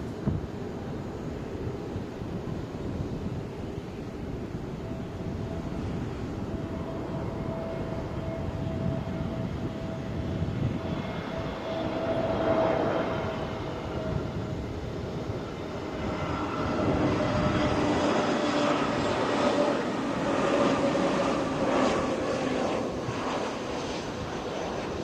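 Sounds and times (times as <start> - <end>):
jet engines whining: 0.0 - 25.0
wind rumble on microphone: 0.0 - 25.0.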